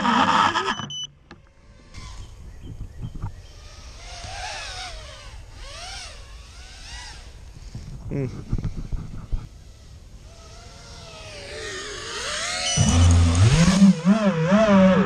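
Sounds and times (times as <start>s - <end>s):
drone motors whining: 0.0s - 7.6s, 8.6s - 15.0s.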